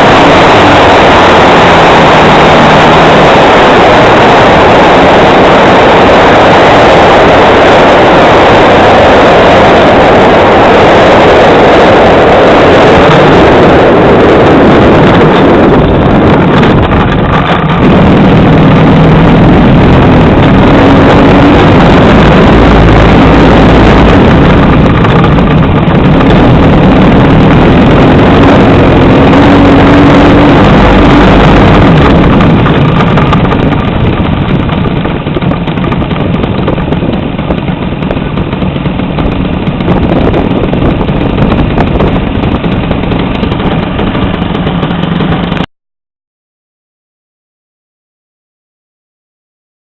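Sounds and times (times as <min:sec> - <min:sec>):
model airplane engine running: 0:00.0 - 0:45.7
wind rushing over microphone: 0:00.0 - 0:45.7.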